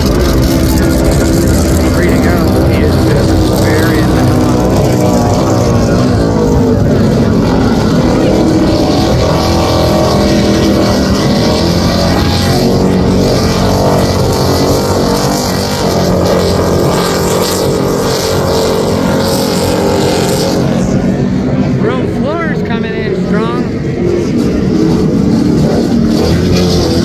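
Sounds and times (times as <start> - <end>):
powerboat engines at speed: 0.0 - 27.0.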